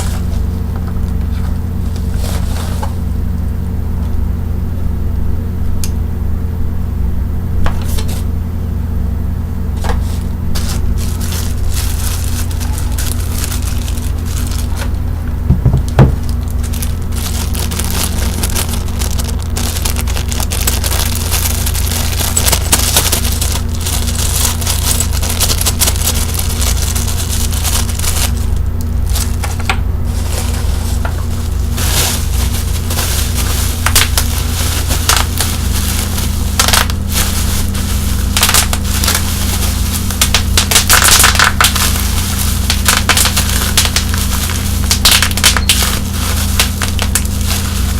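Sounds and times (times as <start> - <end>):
bubble wrap popping and crinkling: 0.0 - 3.1, 9.8 - 47.9
steady low hum: 0.0 - 47.9.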